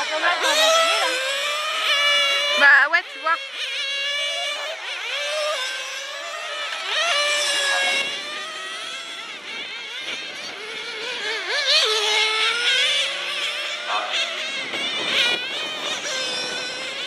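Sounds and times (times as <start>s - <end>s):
radio-controlled car motors whining: 0.0s - 17.0s.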